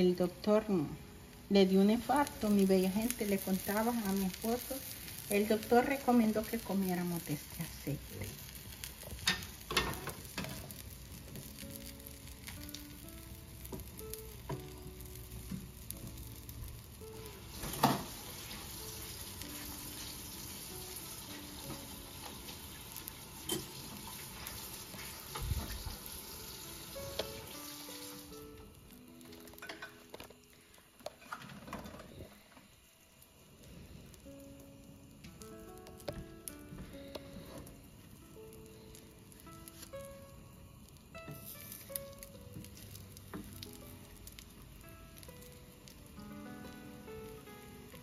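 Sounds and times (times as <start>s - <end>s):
food sizzling in oil: 0.0s - 48.0s.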